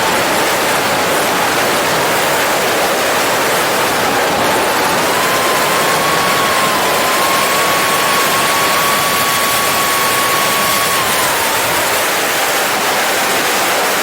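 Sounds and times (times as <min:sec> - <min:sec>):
drone motor whine: 0:00.0 - 0:12.6
propeller wash and wind rush: 0:00.0 - 0:14.0.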